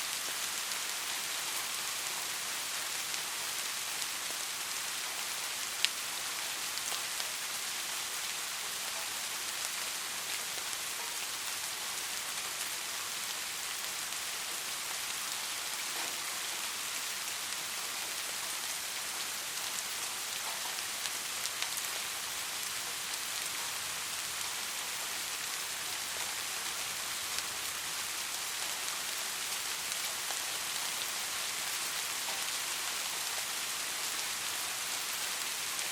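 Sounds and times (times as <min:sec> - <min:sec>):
soft rain hissing: 0:00.0 - 0:35.9.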